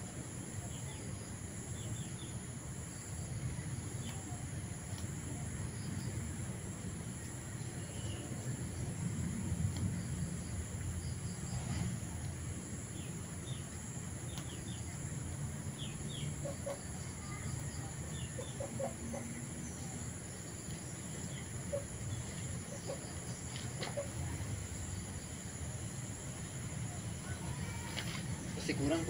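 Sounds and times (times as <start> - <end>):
insect hiss: 0.0 - 29.0.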